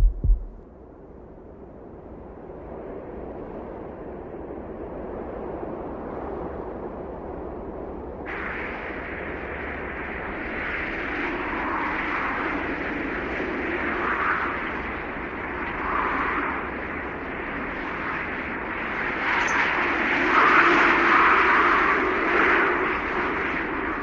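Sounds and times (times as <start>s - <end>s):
wind rushing over sand: 2.1s - 24.0s.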